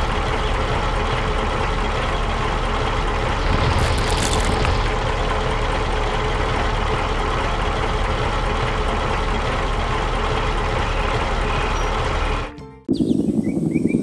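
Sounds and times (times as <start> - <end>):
heavy truck engine rumbling: 0.0 - 12.6.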